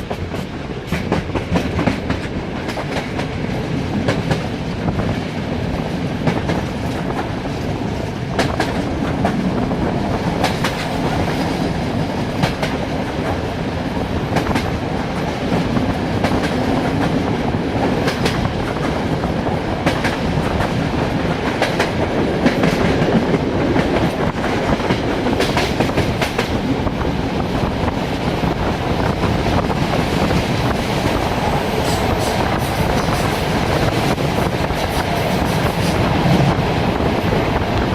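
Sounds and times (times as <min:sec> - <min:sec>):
train wheels rumbling on track: 0:00.0 - 0:37.9.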